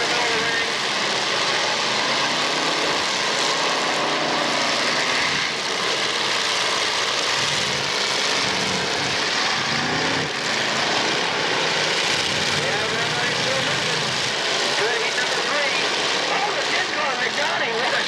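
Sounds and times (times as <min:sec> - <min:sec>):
loud unmuffled car engines: 0:00.0 - 0:18.0.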